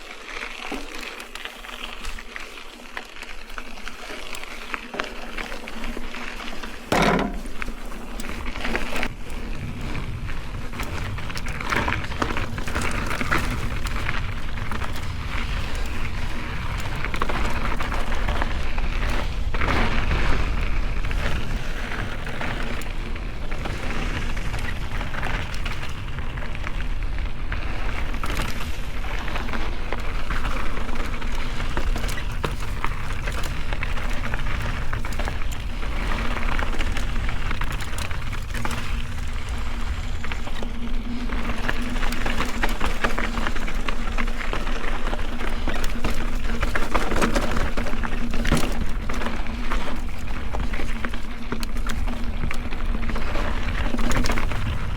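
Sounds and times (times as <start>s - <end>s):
bike rattling: 0.0s - 54.9s
bike tyres crunching on gravel: 0.0s - 54.9s
wind rumble on microphone: 8.2s - 54.9s.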